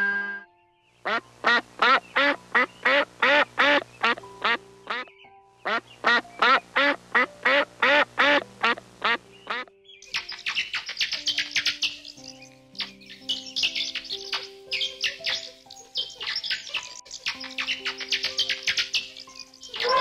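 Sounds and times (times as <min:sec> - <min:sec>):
duck quacking: 0:01.1 - 0:05.1, 0:05.7 - 0:12.2, 0:12.8 - 0:20.0.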